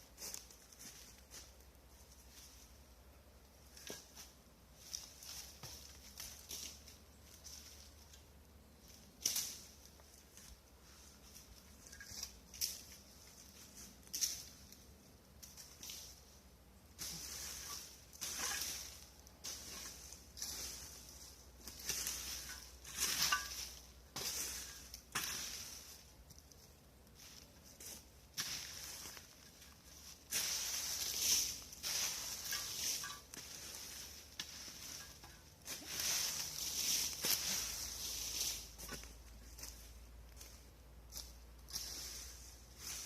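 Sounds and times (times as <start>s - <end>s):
branches and dry leaves crunching: 0.0s - 43.0s.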